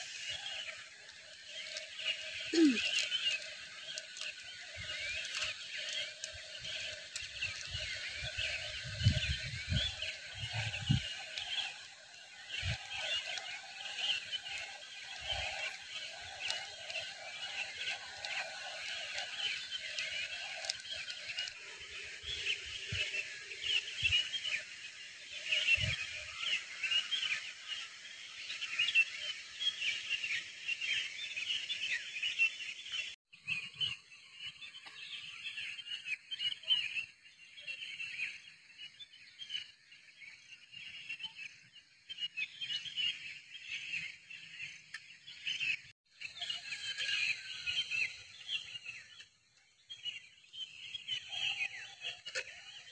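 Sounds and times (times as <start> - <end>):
chorus of high chirps: 0.0 - 52.9.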